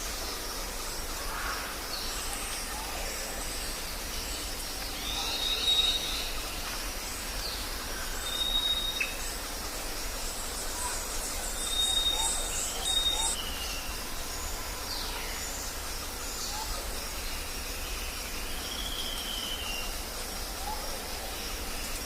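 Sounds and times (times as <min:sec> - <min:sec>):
steady background hiss: 0:00.0 - 0:22.0
birds calling: 0:01.0 - 0:22.0.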